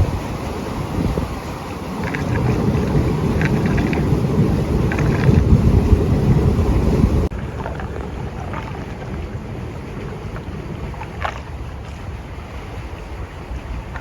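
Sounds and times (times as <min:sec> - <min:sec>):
steady outdoor ambience: 0:00.0 - 0:14.0
wind buffeting microphone: 0:00.0 - 0:14.0.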